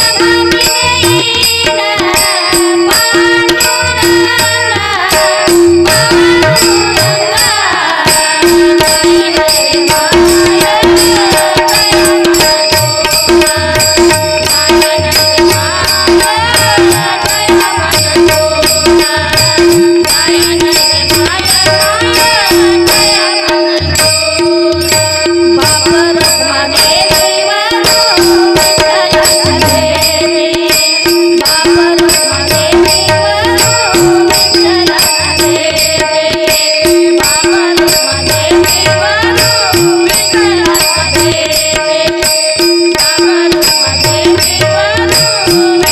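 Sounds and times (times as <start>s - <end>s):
hand drum beat: 0.0s - 45.9s
sustained devotional melody: 0.0s - 45.9s.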